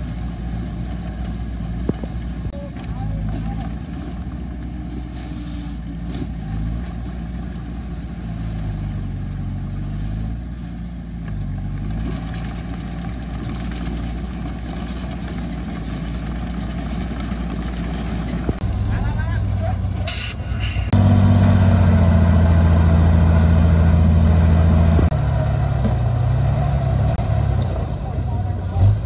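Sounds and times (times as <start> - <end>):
heavy machinery diesel engine: 0.0 - 29.0.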